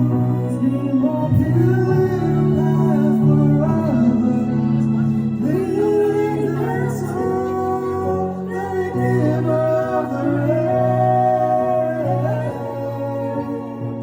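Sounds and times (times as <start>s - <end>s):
instrumental accompaniment: 0.0s - 14.0s
person singing long notes: 0.0s - 14.0s.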